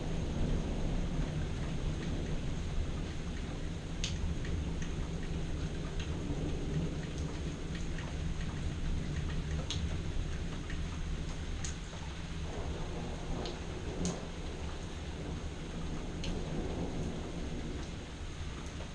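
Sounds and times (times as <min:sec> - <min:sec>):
low rumble of thunder: 0:00.0 - 0:18.9
steady rain: 0:00.0 - 0:18.9.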